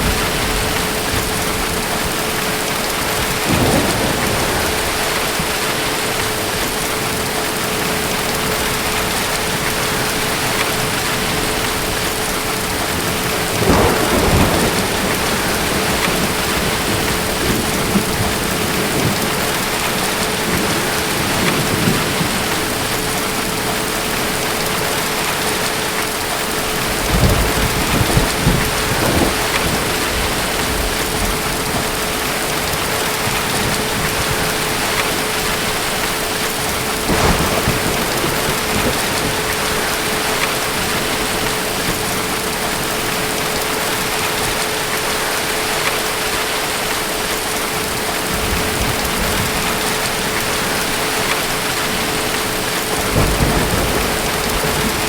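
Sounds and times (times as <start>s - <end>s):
heavy rain falling: 0.0s - 55.0s
thunder rumbling: 0.0s - 55.0s.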